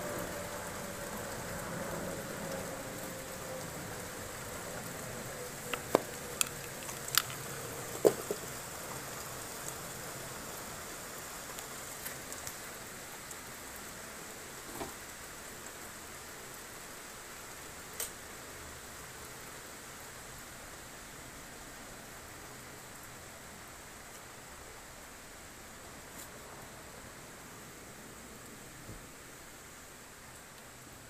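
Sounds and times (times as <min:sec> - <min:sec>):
light rain hiss: 0:00.0 - 0:31.0.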